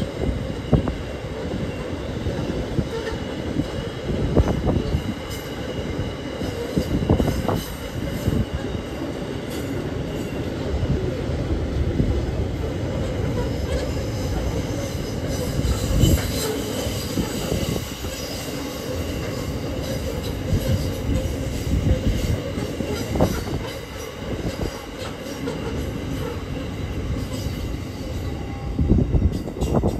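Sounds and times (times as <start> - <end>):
freight train rumbling: 0.0 - 29.9.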